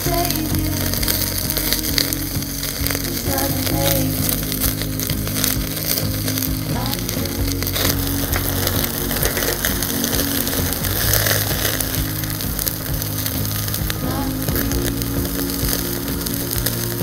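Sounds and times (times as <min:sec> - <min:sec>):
background music with low notes: 0:00.0 - 0:17.0
sizzling crackle with pops: 0:00.0 - 0:17.0.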